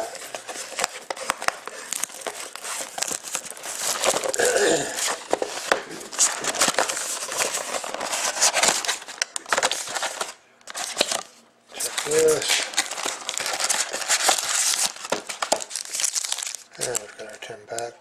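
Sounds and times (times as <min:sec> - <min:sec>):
plastic shrink-wrap tearing: 0:00.0 - 0:17.2.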